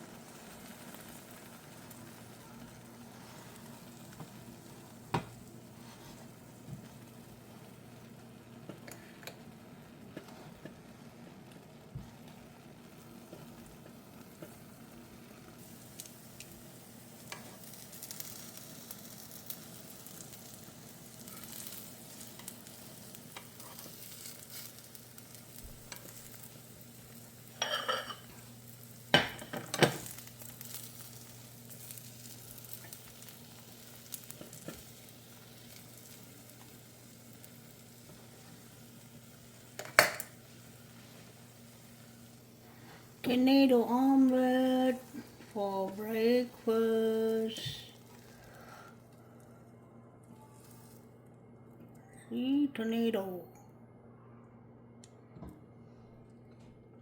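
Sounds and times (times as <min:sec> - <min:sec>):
egg sizzling in a frying pan: 0:00.0 - 0:49.5.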